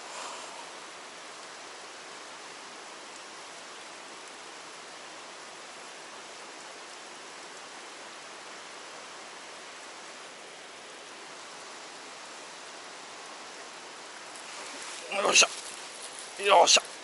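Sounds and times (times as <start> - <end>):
water flowing through stream: 0.0 - 17.0.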